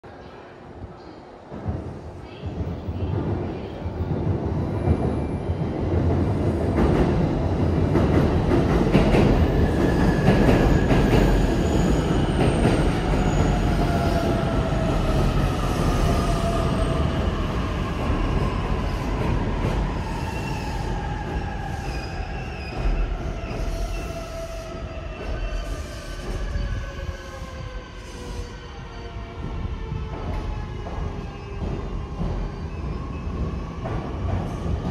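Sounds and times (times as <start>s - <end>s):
train wheels rumbling on rails: 1.2s - 34.9s.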